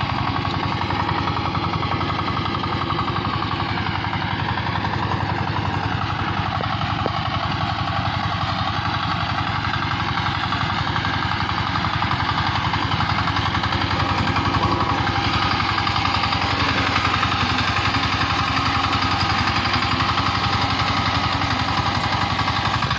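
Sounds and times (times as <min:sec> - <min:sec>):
walk-behind tractor engine running: 0:00.0 - 0:22.9.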